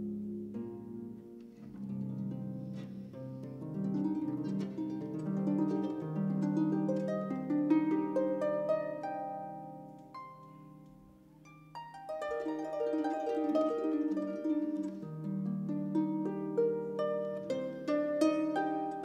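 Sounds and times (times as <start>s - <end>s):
harp playing plucked notes: 0.0s - 19.0s.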